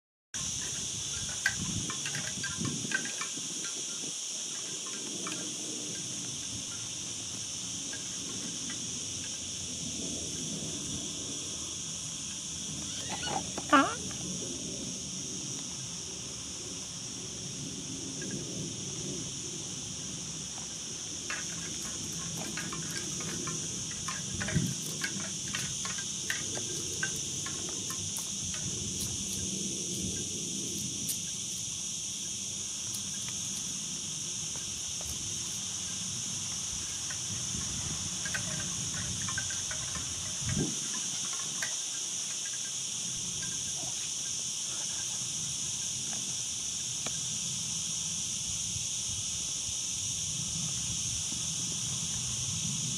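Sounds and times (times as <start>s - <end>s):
insects chirping chorus: 0.4s - 52.9s.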